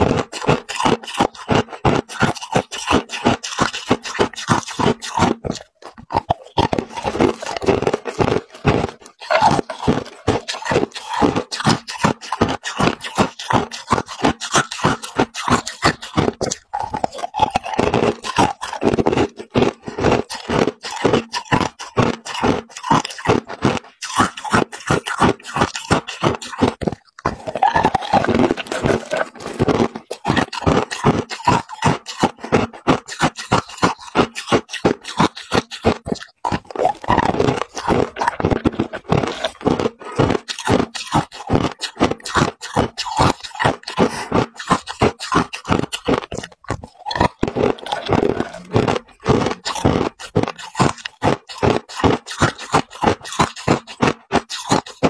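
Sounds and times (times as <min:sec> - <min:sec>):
person chewing ice cubes: 0:00.0 - 0:55.0.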